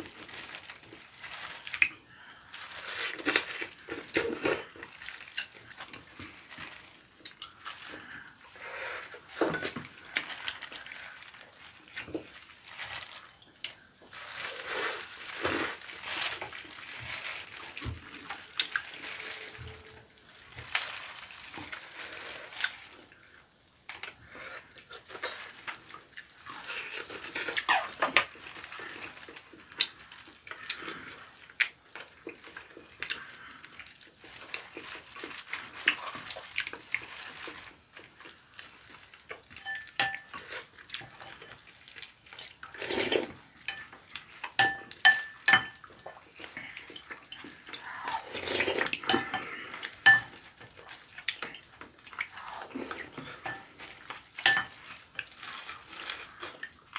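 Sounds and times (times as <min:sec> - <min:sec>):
wet chewing and smacking: 0:00.0 - 0:23.2, 0:23.9 - 0:56.9.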